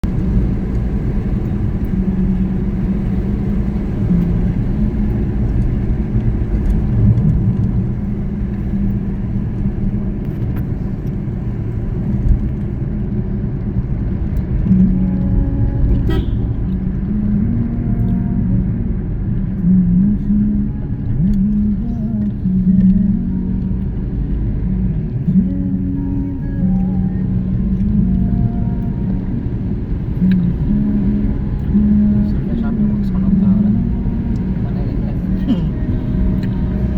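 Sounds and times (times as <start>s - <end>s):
vehicle engine and road rumble: 0.0s - 36.9s.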